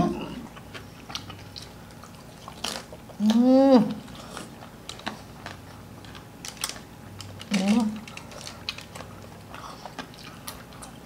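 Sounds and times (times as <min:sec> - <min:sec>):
crunchy chewing: 0:00.1 - 0:03.4, 0:04.0 - 0:11.0.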